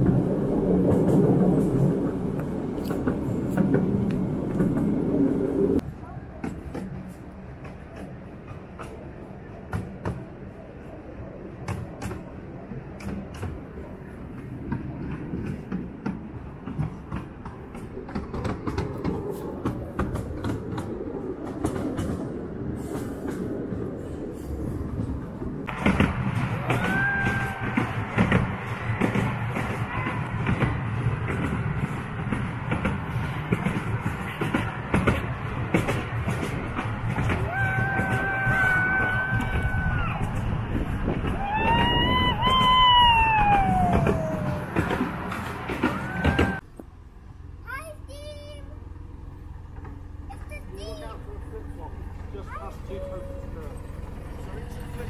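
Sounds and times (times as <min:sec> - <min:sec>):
wheels clacking over rails: 0:00.0 - 0:10.3, 0:11.6 - 0:24.2, 0:24.9 - 0:55.0
train rumbling: 0:00.0 - 0:55.0.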